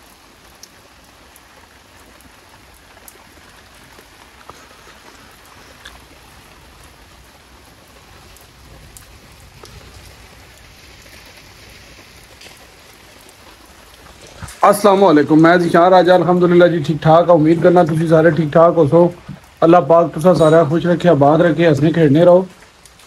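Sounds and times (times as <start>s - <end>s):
rain on wet pavement: 0.0s - 23.0s.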